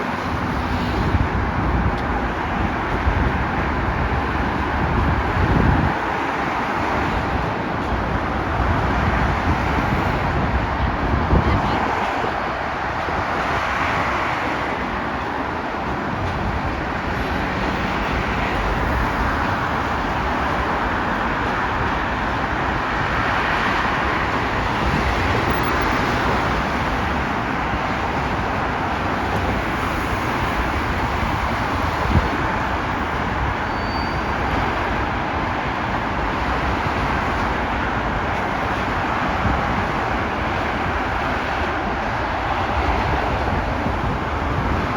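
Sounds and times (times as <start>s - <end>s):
vehicle rolling noise: 0.0s - 44.9s.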